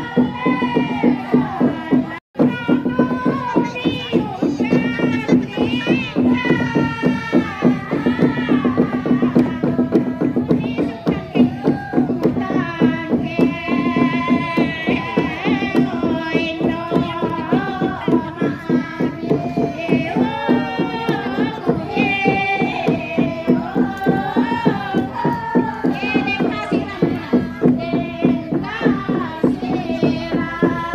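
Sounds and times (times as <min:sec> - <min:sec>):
woman singing chant: 0:00.0 - 0:30.9.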